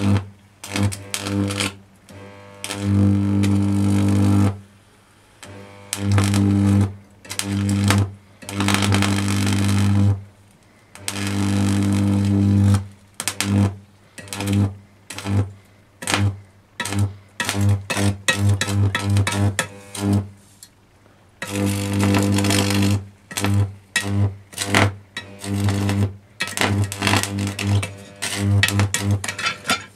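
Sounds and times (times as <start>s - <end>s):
electric arc buzzing: 0.0s - 4.8s, 5.4s - 20.4s, 21.4s - 29.9s.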